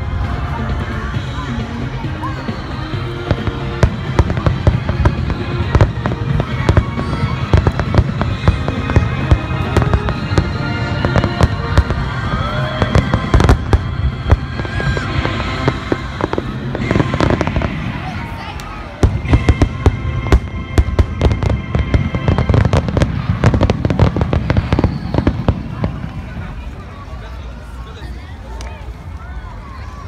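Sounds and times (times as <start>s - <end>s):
music: 0.0s - 26.2s.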